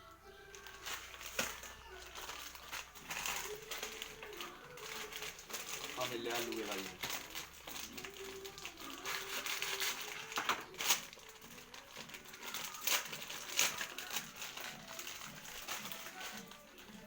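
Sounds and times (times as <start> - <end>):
crinkling and rustling handling: 0.0 - 17.0.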